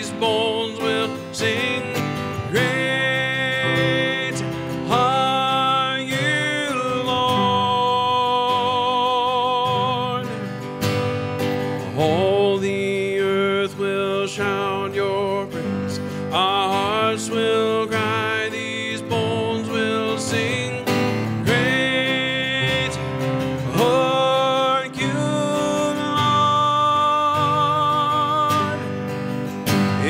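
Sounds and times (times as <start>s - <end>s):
person singing: 0.0s - 11.0s, 11.6s - 30.0s
acoustic guitar: 0.0s - 30.0s.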